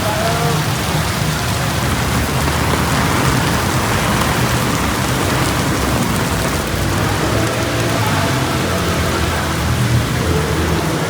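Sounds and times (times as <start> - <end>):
heavy rain on street: 0.0 - 11.0.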